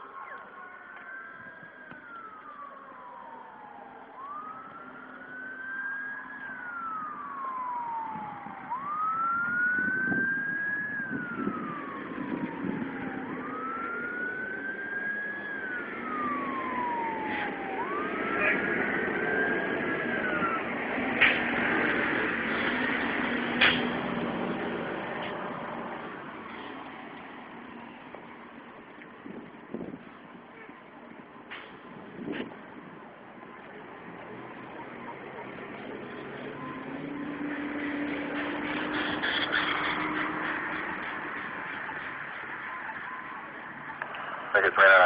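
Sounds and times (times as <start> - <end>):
fire engine siren wailing: 0.0 - 45.0.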